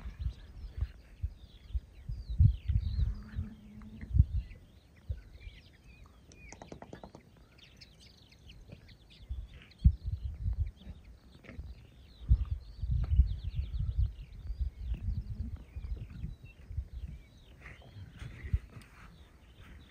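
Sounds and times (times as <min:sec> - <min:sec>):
wind buffeting microphone: 0:00.0 - 0:06.6, 0:07.4 - 0:19.9
small birds twittering: 0:00.0 - 0:19.9.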